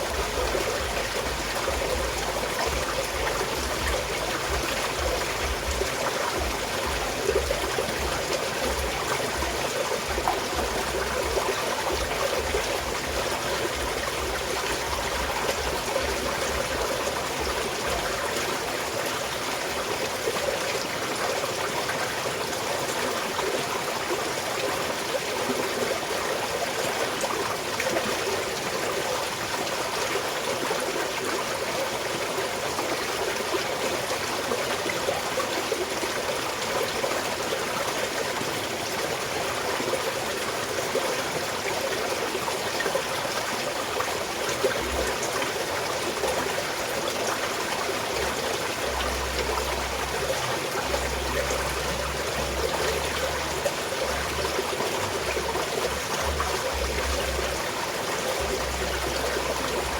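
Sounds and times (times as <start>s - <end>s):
mountain stream trickling: 0.0s - 59.9s.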